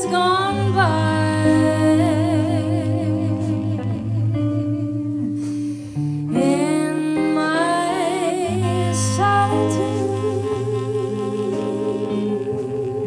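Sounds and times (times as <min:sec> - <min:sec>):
woman singing with vibrato: 0:00.0 - 0:04.4, 0:06.3 - 0:13.0
bass notes: 0:00.0 - 0:13.0
electric guitar: 0:00.0 - 0:13.0.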